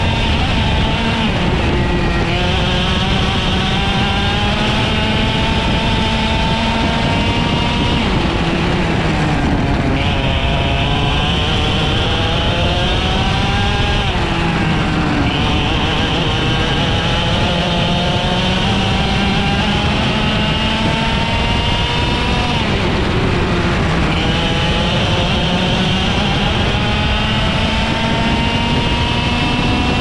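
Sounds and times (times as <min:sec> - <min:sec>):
kart engine racing: 0:00.0 - 0:30.0.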